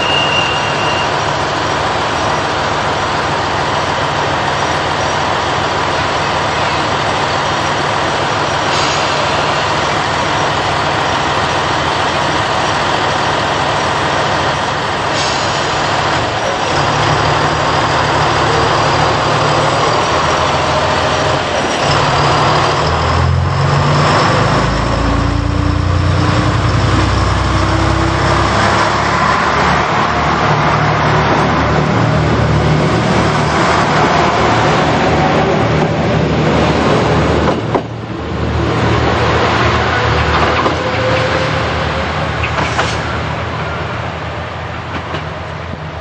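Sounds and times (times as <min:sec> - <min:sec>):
diesel railcar engines: 0:00.0 - 0:46.0
wheels rumbling on rails: 0:00.0 - 0:46.0.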